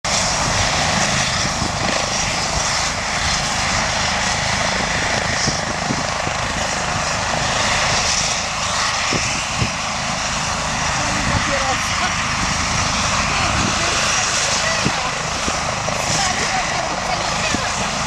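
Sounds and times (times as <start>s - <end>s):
helicopter idling on ground: 0.0s - 18.0s.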